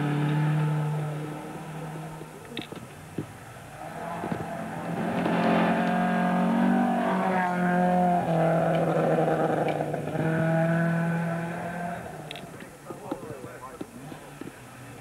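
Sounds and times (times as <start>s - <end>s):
rally car engine at high revs: 0.0s - 2.5s, 3.7s - 15.0s.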